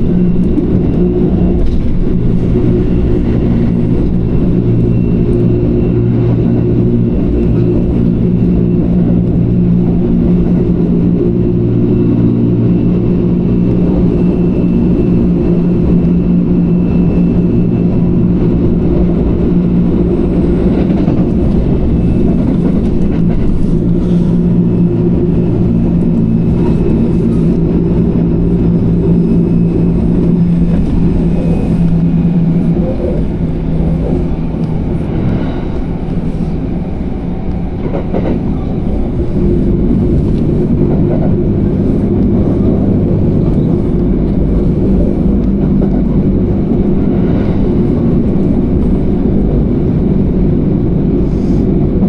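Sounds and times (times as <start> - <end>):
train motors and wheels rumbling: 0.0 - 52.0.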